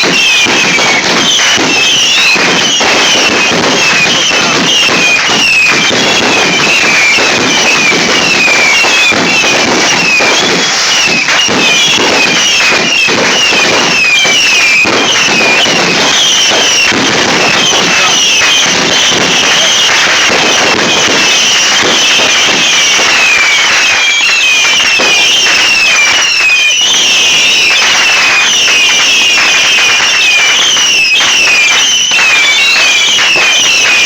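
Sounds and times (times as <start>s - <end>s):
fireworks crackling and popping: 0.0s - 34.0s
fireworks falling whistles: 0.0s - 34.0s.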